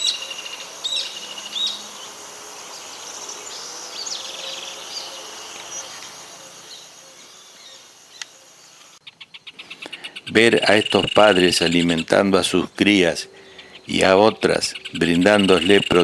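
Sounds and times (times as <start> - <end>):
high insect hum: 0.0 - 16.0
small birds chirping: 0.0 - 16.0.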